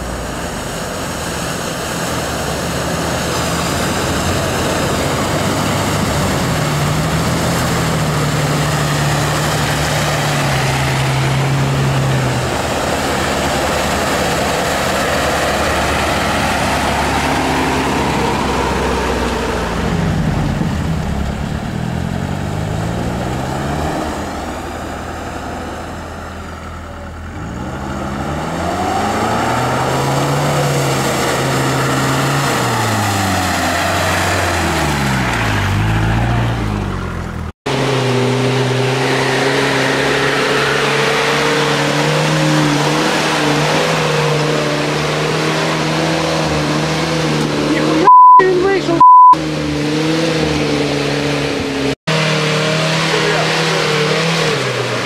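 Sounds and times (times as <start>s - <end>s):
off-road vehicle engines revving: 0.0s - 55.0s
tyres churning mud and water: 0.0s - 55.0s.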